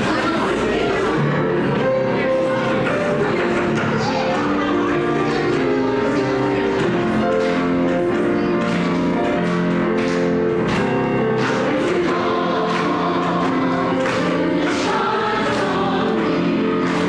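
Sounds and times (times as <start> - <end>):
voices singing a hymn: 0.0 - 8.3, 10.7 - 17.0.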